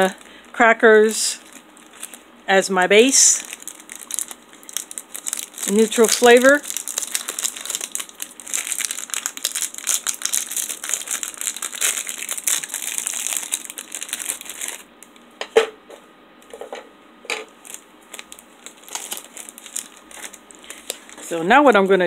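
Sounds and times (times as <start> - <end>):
plastic wrapper crinkling: 0.0 - 2.3, 3.0 - 15.3, 17.4 - 22.0.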